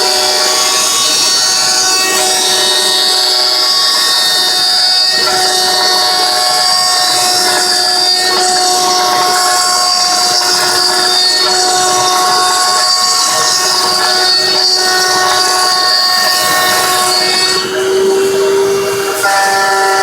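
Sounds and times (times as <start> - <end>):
machine spindle whine: 0.0 - 20.0.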